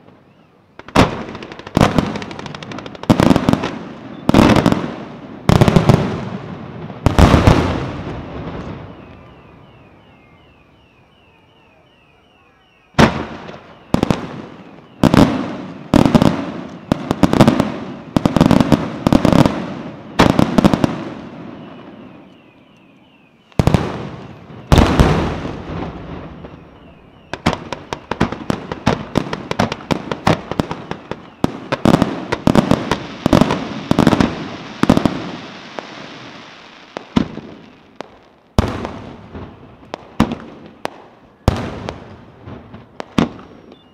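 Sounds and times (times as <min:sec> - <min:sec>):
firework booms: 0:00.0 - 0:11.3, 0:12.4 - 0:22.3, 0:23.6 - 0:43.8
firework crackling: 0:00.0 - 0:43.9.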